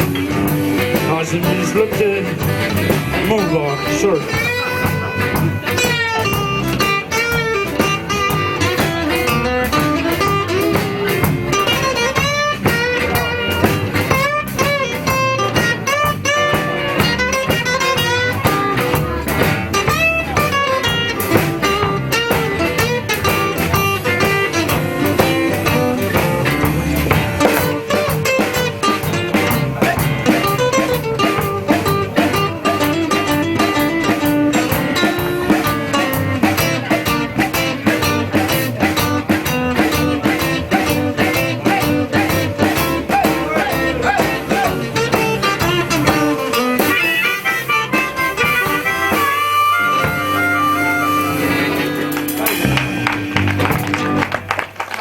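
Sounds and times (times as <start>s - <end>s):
electric guitar solo: 0.0s - 54.6s
blues band playing: 0.0s - 55.0s.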